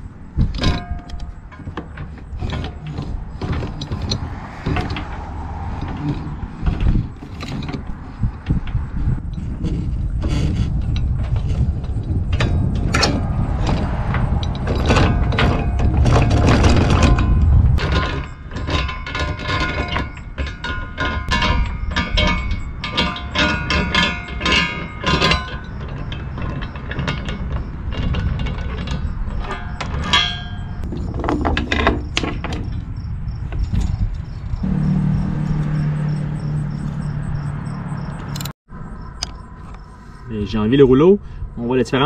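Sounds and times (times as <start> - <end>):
metallic clicking and clanking: 0.0 - 38.6.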